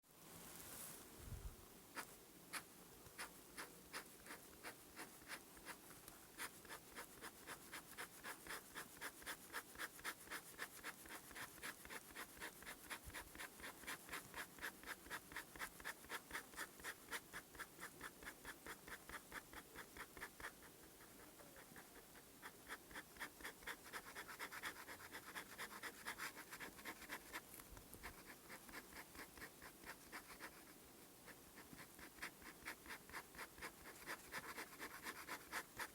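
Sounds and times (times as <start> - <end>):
pen nib scratching on paper: 2.0 - 35.9.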